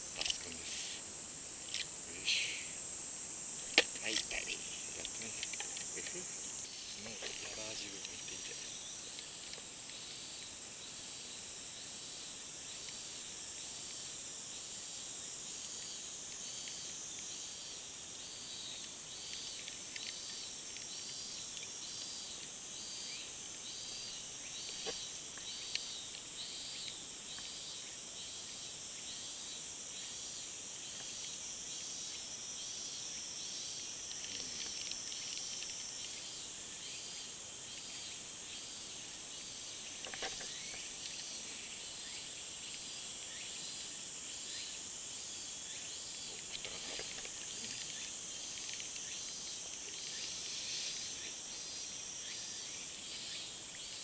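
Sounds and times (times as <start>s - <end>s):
insects shrilling: 0.0s - 54.0s.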